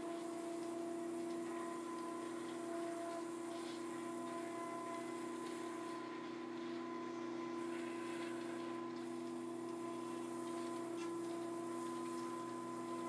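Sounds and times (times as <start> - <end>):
small electric motors humming: 0.0 - 13.0.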